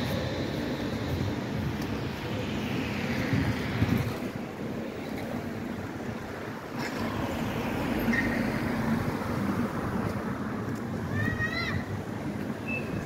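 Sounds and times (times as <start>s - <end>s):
cars passing: 0.0s - 13.0s
steady rushing noise: 0.0s - 13.0s.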